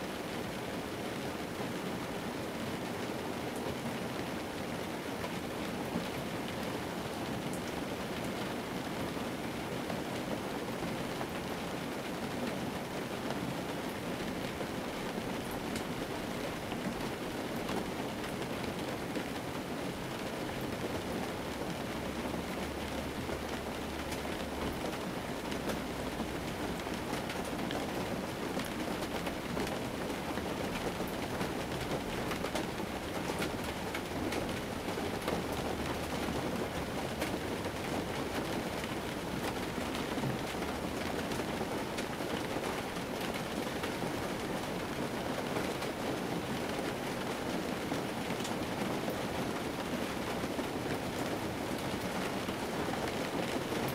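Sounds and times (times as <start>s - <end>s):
rain pattering on a car: 0.0s - 53.9s.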